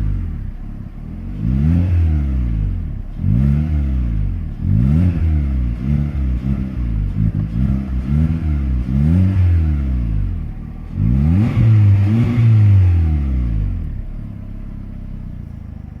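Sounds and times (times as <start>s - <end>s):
car engine idling: 0.0s - 16.0s
car engine revving: 0.0s - 16.0s.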